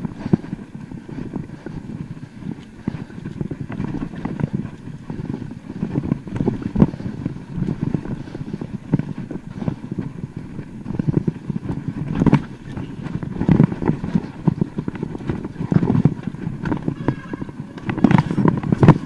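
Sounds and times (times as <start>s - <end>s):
bike clattering over rough ground: 0.0s - 19.0s
constant low rumble: 0.0s - 19.0s.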